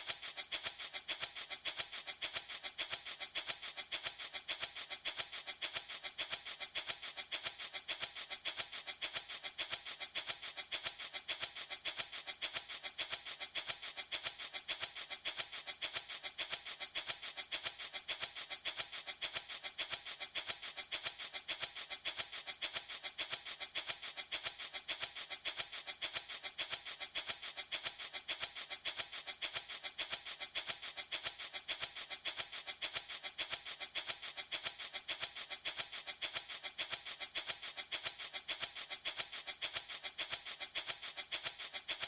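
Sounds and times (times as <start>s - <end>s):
baby rattle shaken: 0.0s - 42.0s.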